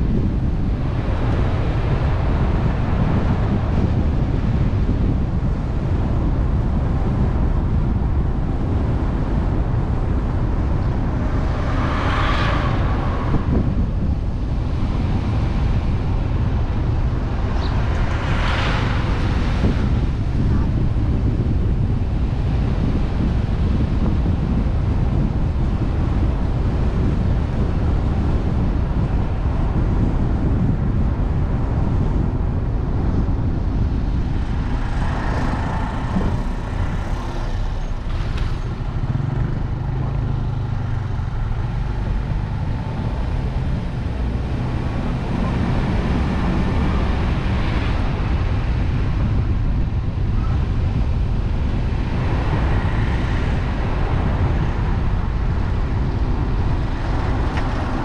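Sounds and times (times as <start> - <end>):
car road and wind noise: 0.0 - 58.0
traffic passing: 0.0 - 58.0.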